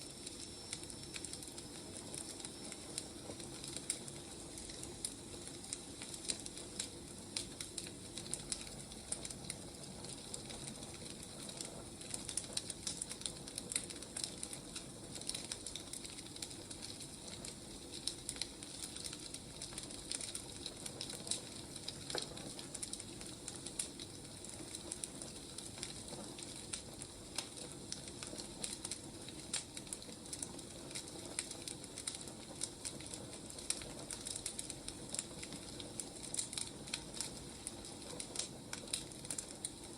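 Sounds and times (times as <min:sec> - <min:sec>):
firewood crackling: 0:00.0 - 0:39.9
soft hiss of fire: 0:00.0 - 0:39.9.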